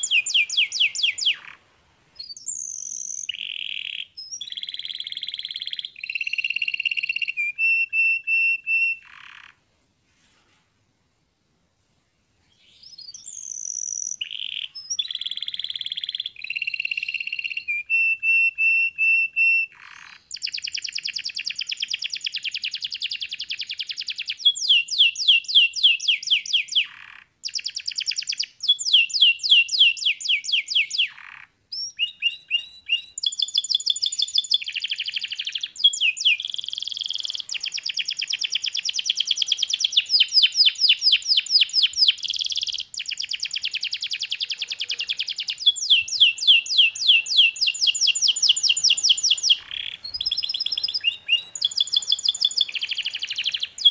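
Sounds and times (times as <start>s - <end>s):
canary singing: 0.0s - 9.6s, 12.6s - 53.9s.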